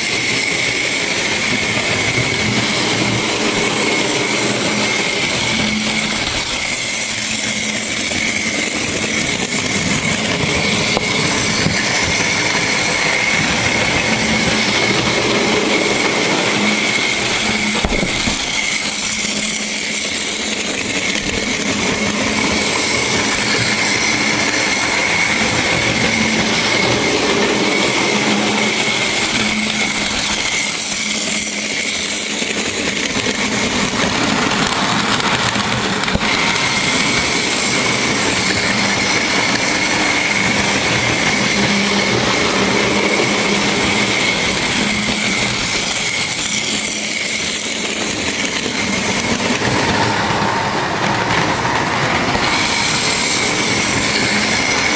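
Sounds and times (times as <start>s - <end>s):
high whine: 0.0s - 54.9s
model train motors whirring: 0.0s - 54.9s.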